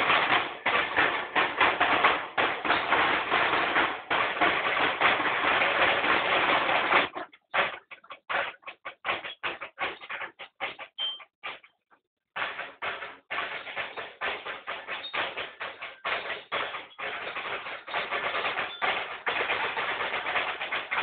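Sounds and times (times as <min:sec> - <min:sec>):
drums playing: 0:00.0 - 0:10.9, 0:12.4 - 0:21.0.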